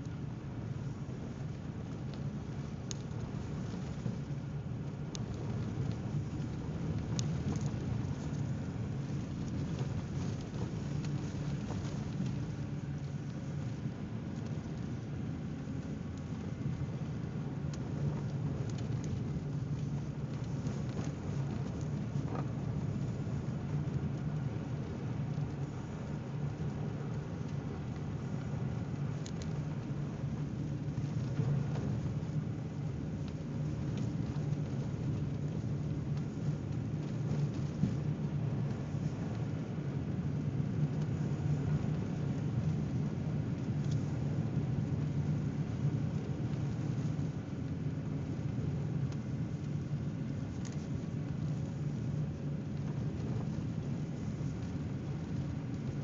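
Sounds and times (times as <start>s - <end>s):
car driving on snow: 0.2s - 56.0s.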